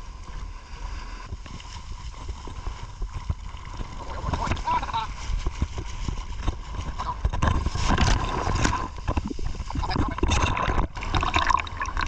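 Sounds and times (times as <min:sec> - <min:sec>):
rumble of breaking waves: 0:00.0 - 0:12.0
surf sloshing and splashing: 0:00.0 - 0:12.0.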